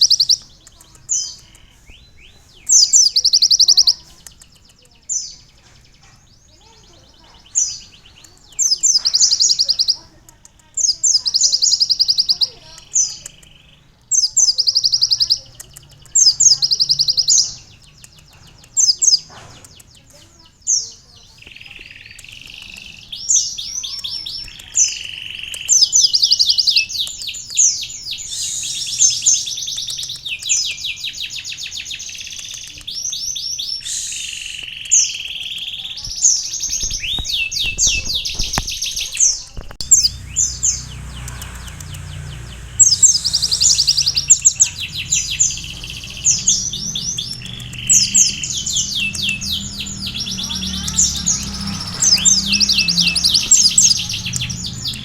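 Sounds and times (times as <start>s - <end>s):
bird singing fast trills: 0.0s - 55.0s.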